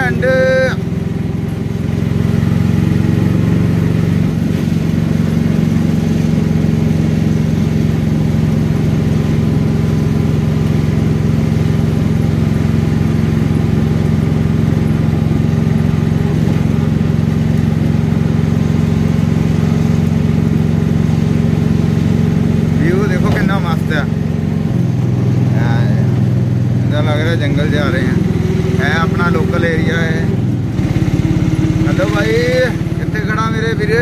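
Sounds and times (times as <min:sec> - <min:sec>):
car cabin engine and tyre drone: 0:00.0 - 0:34.0.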